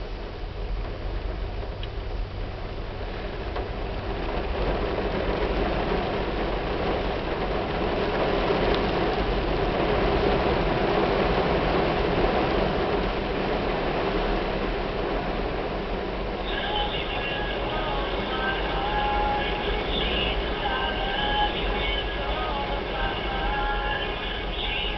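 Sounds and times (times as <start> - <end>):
heavy rain on car roof: 0.0 - 24.9.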